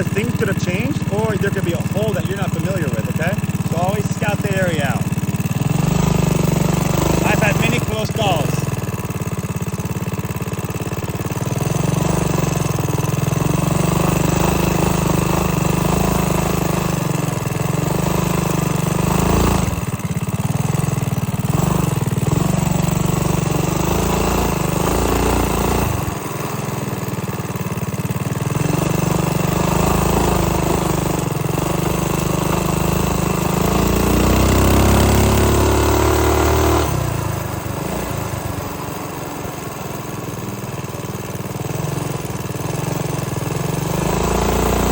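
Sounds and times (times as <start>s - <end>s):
small motorbike engine revving: 0.0s - 44.9s.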